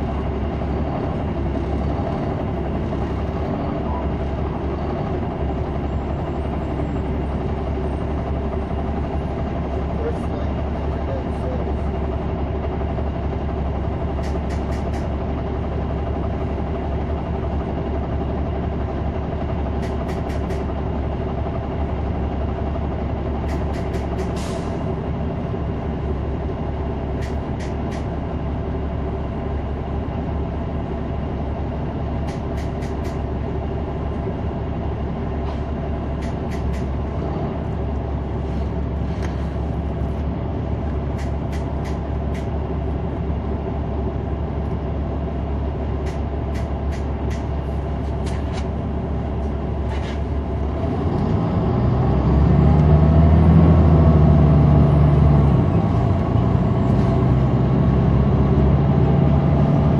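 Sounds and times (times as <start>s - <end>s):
bus engine hum: 0.0s - 59.9s.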